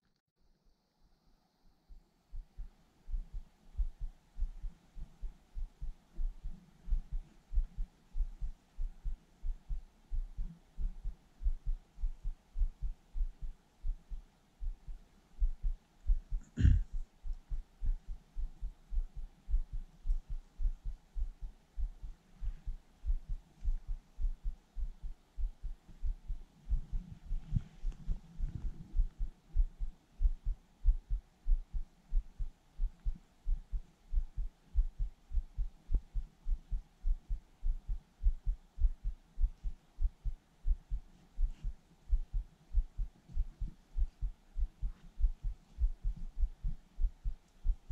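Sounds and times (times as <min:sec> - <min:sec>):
muffled heartbeat thumps: 0:02.3 - 0:47.9.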